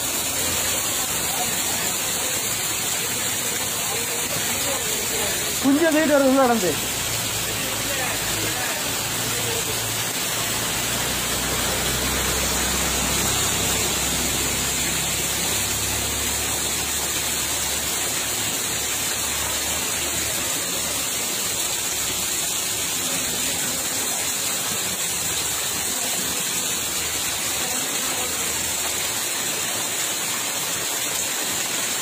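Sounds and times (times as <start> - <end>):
rushing floodwater: 0.0 - 32.0.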